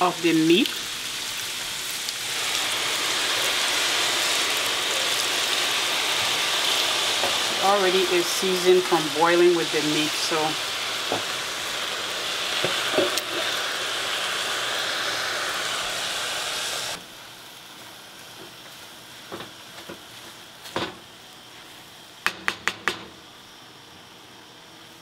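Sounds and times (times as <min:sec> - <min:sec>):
liquid sizzling in hot pot: 0:00.0 - 0:24.6.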